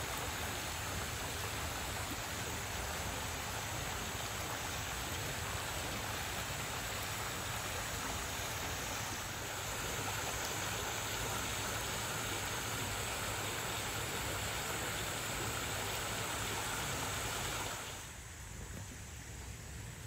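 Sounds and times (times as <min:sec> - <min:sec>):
water pouring and splashing: 0:00.0 - 0:20.0.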